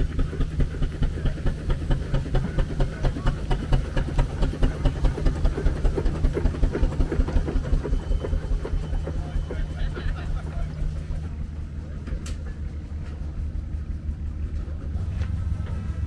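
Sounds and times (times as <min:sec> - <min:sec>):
constant low hum: 0:00.0 - 0:16.0
engine running steadily: 0:00.0 - 0:16.0.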